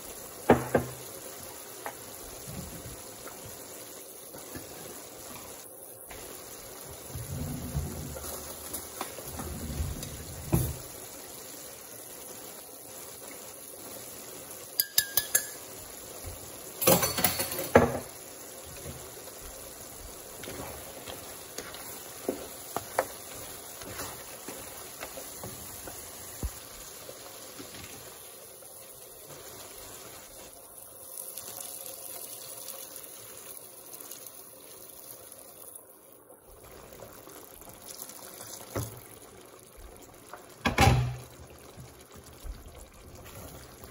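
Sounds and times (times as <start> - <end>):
low hiss from cooking pan: 0.0 - 43.9.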